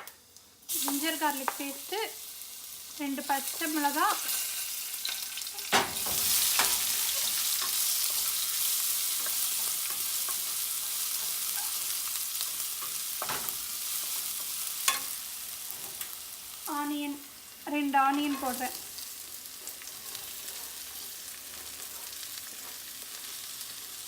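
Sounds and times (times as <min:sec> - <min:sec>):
sizzling in hot oil: 0:00.0 - 0:24.0.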